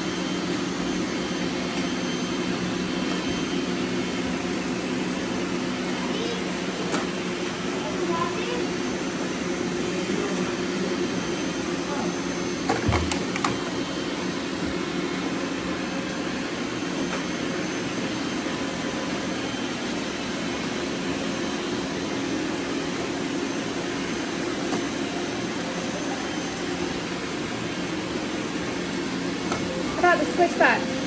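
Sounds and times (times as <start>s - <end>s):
robot vacuum cleaners whirring: 0.0s - 31.0s.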